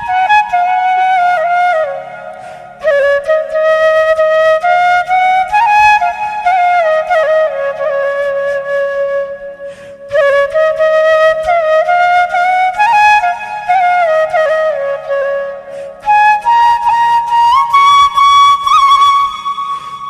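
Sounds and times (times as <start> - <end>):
solo flute melody: 0.0 - 20.0.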